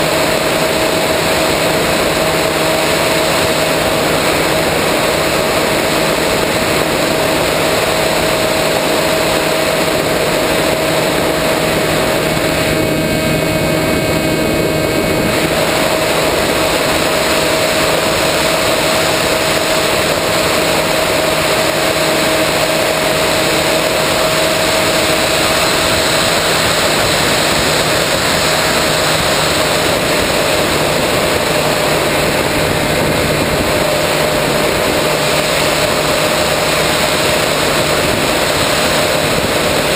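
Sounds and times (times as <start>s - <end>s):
electric motor whine: 0.0s - 39.9s
rush of air: 0.0s - 39.9s.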